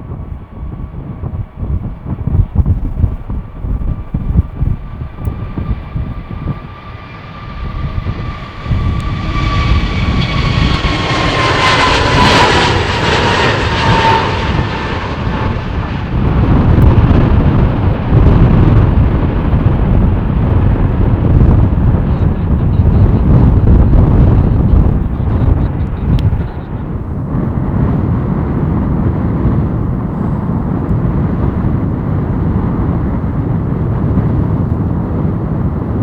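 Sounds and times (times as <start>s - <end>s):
deep engine rumble: 0.0s - 36.0s
jet airliner passing: 0.0s - 36.0s.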